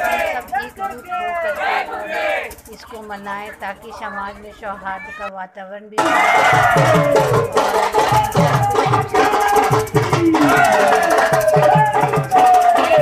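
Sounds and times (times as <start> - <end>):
quick drum beat: 0.0 - 3.8, 6.0 - 13.0.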